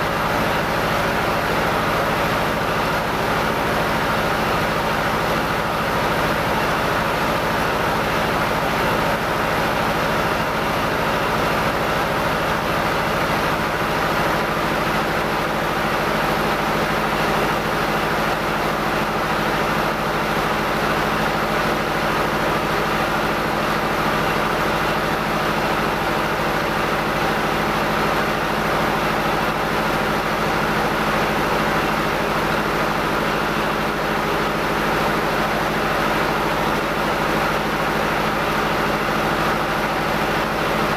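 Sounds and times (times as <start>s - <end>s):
rice mill machinery drone: 0.0s - 40.9s.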